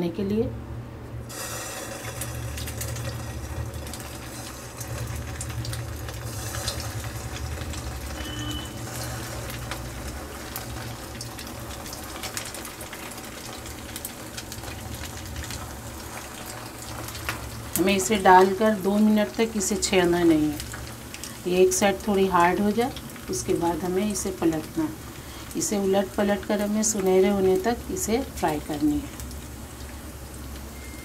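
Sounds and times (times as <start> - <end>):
deep-frying in hot oil: 1.2 - 31.0.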